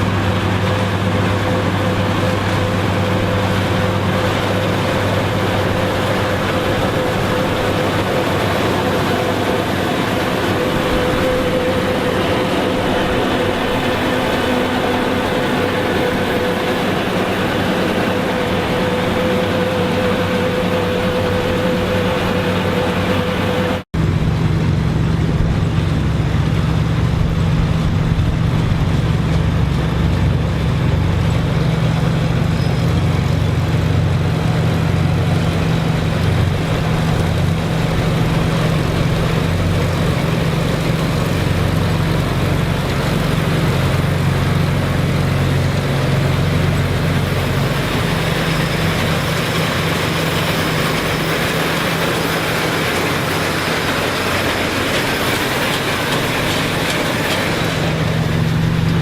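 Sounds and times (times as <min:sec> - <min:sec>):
farm machinery engine running: 0:00.0 - 0:59.0
steady whine: 0:00.0 - 0:59.0.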